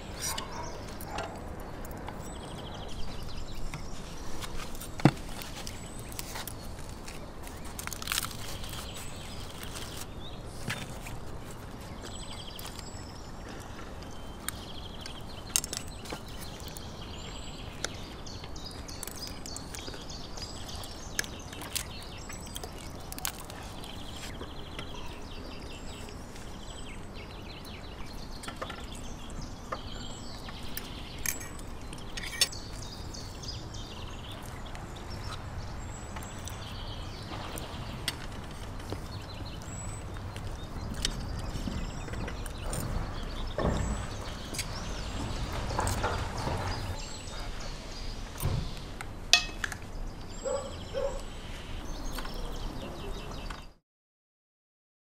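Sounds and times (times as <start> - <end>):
small birds chirping: 0.0 - 53.8.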